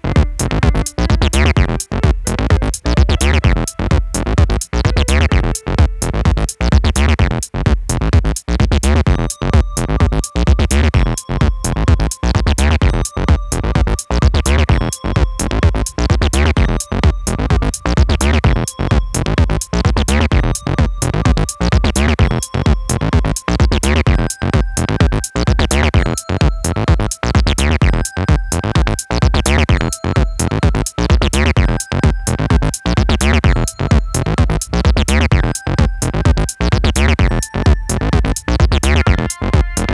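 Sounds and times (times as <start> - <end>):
drum machine beat: 0.0 - 39.9
held keyboard notes: 0.0 - 39.9
synth bass: 0.0 - 39.9.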